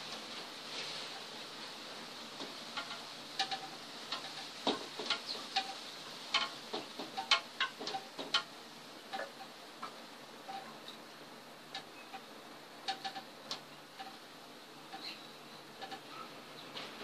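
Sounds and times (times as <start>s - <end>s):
wood-burning tip crackling on wood: 0.0s - 17.0s.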